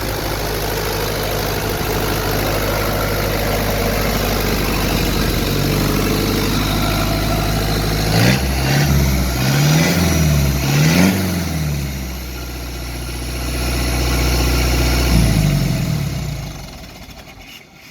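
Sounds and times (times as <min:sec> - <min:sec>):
diesel engine idling and revving: 0:00.0 - 0:17.9.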